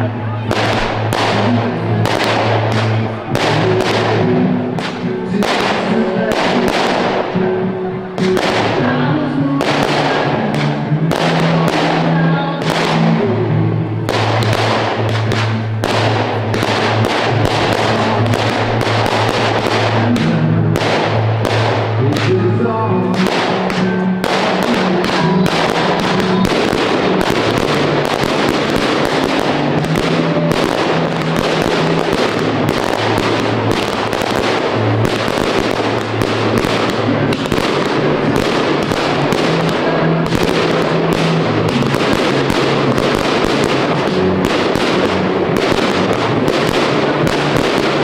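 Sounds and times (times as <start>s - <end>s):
fireworks bangs and crackles: 0.0s - 48.0s
music playing: 0.0s - 48.0s.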